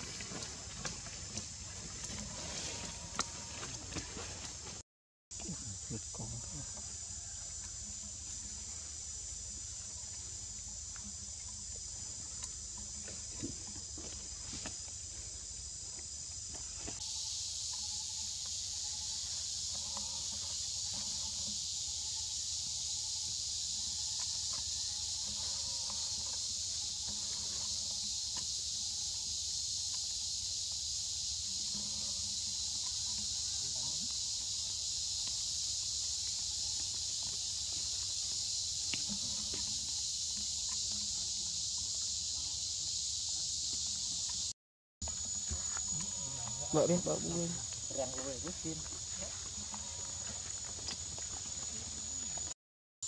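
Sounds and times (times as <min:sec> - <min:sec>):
shrill insect chorus: 0:05.4 - 0:52.6.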